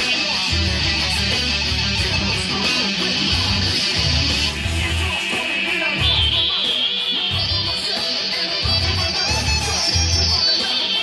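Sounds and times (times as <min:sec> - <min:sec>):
drum and bass pulses: 0:00.0 - 0:11.0
electric guitar rock riff: 0:00.0 - 0:11.0.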